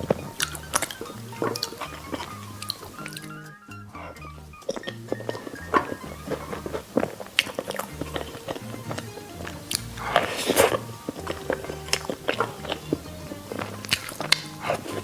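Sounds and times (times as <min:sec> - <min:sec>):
loud slurp: 0:00.0 - 0:03.4, 0:04.0 - 0:15.0
background music with slow bass: 0:00.0 - 0:15.0
biting and chewing: 0:00.0 - 0:15.0.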